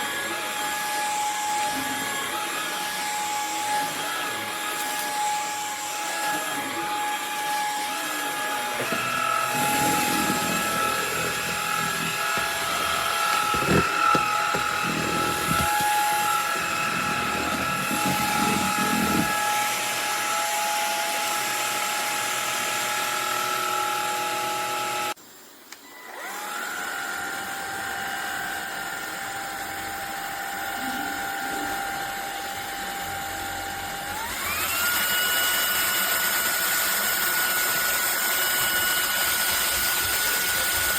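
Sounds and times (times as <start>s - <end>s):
vacuum motor whining: 0.0s - 25.2s, 25.8s - 40.9s.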